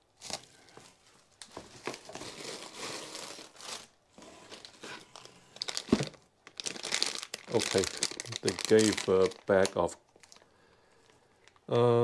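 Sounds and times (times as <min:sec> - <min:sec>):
bubble wrap crinkling: 0:00.1 - 0:11.7.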